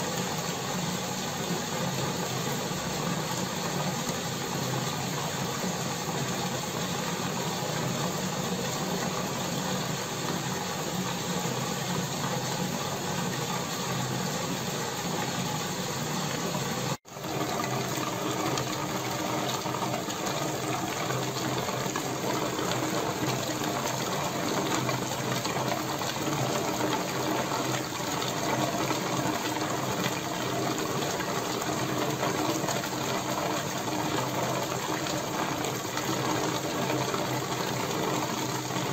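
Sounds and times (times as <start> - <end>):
low pump hum: 0.0 - 38.9.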